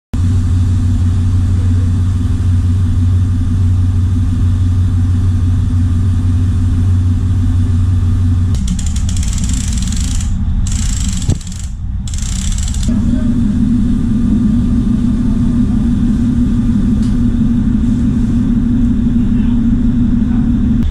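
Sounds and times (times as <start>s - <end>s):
boat engine droning: 0.2s - 20.9s.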